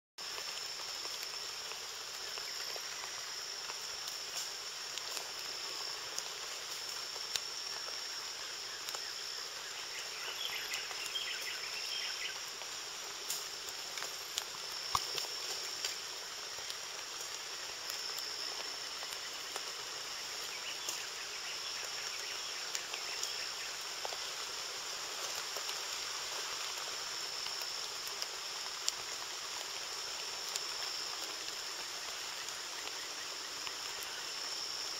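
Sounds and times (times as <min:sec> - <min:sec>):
background hiss: 0:00.2 - 0:34.9
insect chorus with high buzz: 0:00.2 - 0:34.9.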